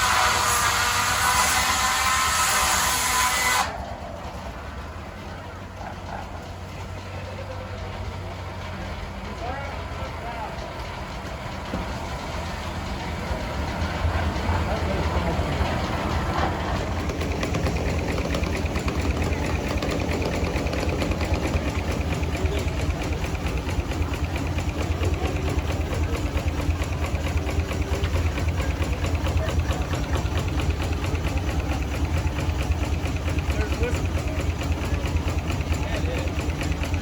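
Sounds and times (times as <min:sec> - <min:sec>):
steam engine running: 0:00.0 - 0:37.0.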